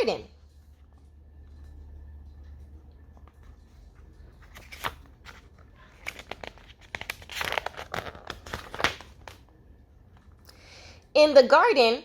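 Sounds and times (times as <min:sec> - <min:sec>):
paper pages rustling and turning: 0:00.4 - 0:10.3.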